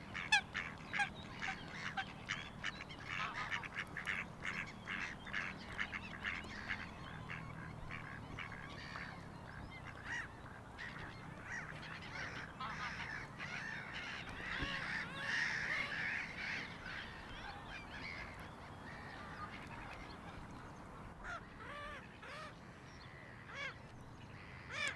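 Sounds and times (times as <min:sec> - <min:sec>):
geese honking: 0:00.0 - 0:20.8.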